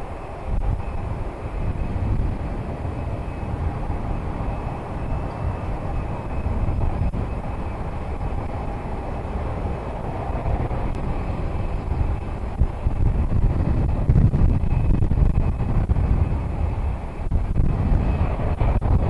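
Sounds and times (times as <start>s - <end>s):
aircraft engine noise: 0.0s - 19.0s
faint high whine: 0.0s - 19.0s
wind buffeting microphone: 0.0s - 19.0s.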